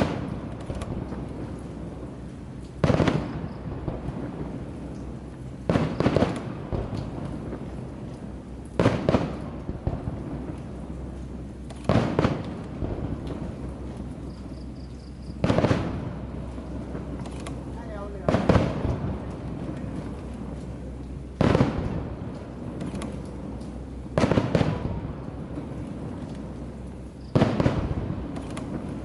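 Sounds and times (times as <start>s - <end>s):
firework shells bursting: 0.0s - 29.0s
small firework cracks: 0.0s - 29.0s.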